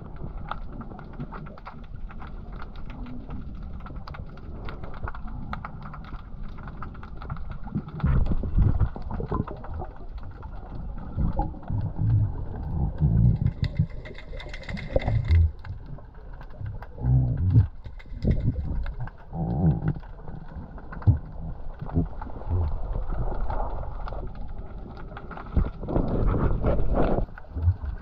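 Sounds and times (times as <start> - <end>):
underwater clicks crackling: 0.0 - 28.0
underwater surges of rushing water: 0.0 - 28.0.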